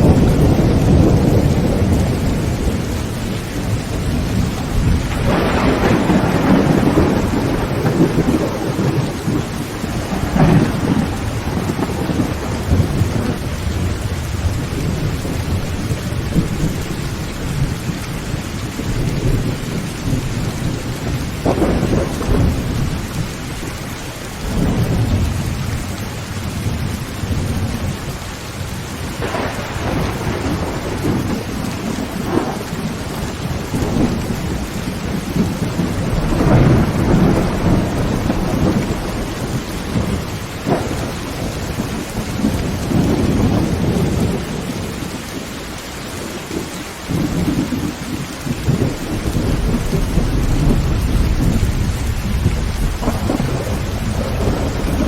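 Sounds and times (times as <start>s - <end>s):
heavy rain on a tin roof: 0.0s - 55.0s
rolling thunder: 0.0s - 55.0s.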